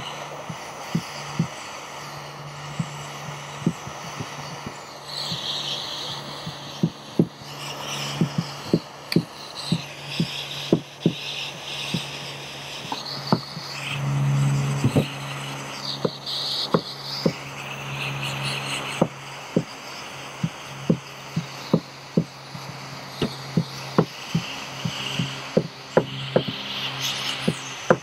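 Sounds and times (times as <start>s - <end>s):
gas torch hissing: 0.0s - 28.0s
low steady hum: 0.0s - 28.0s.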